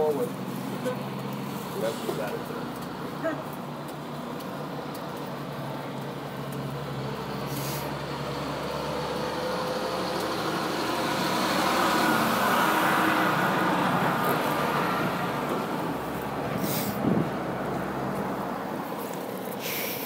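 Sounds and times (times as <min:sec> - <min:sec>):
vehicle passing on street: 0:00.0 - 0:20.0.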